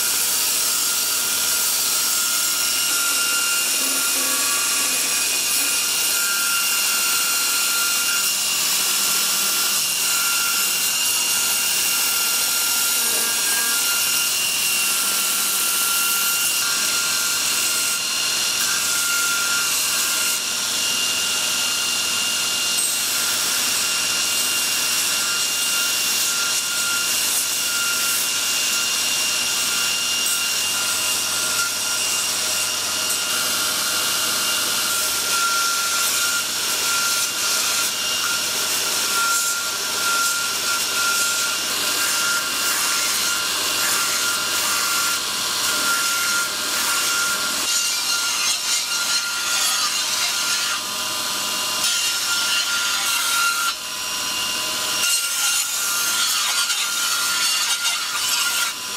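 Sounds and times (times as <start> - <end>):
belt grinder grinding steel: 0.0 - 58.9.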